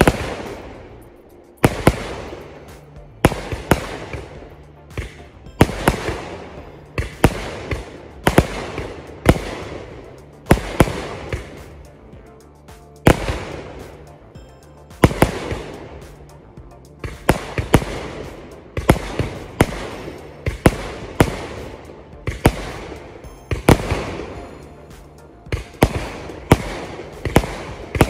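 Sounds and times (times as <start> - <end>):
firework shots: 0.0 - 12.1, 12.7 - 14.3, 14.9 - 28.0
crackling firework shells: 0.0 - 28.0.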